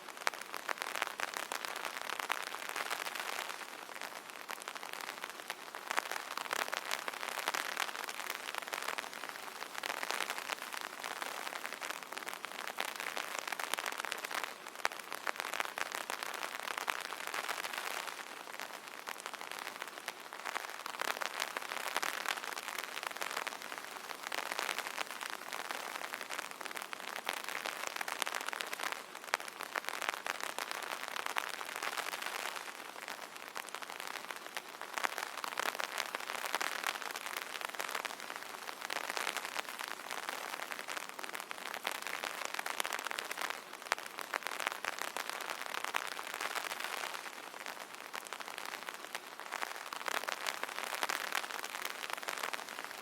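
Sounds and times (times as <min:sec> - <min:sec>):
rain pattering on umbrella: 0:00.0 - 0:53.0.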